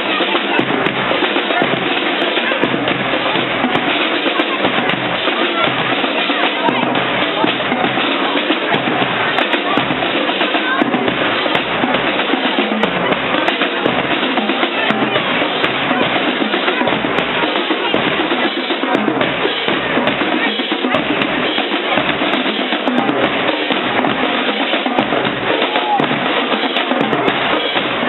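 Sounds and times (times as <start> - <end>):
bass drum beat: 0.0 - 28.0
snare drum: 0.0 - 28.0.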